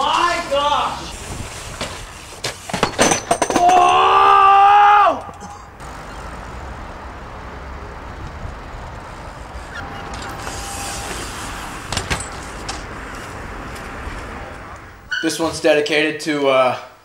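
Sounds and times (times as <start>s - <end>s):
bikes rolling over paving: 0.0s - 5.0s, 5.8s - 14.9s.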